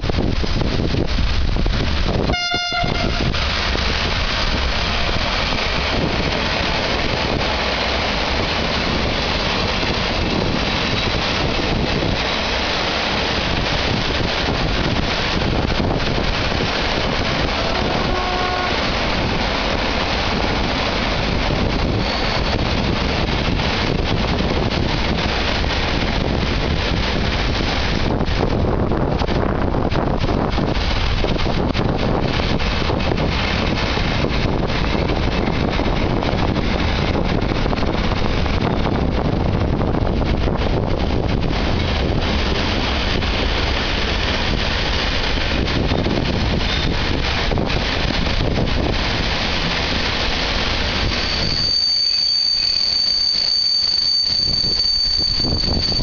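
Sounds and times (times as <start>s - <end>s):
wind buffeting microphone: 0.0s - 51.8s, 54.0s - 56.0s
train wheels rolling on rails: 0.0s - 56.0s.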